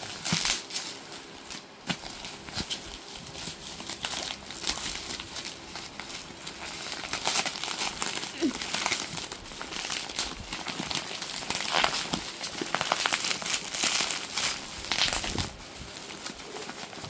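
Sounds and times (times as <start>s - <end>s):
crinkly material crackling: 0.0s - 17.0s.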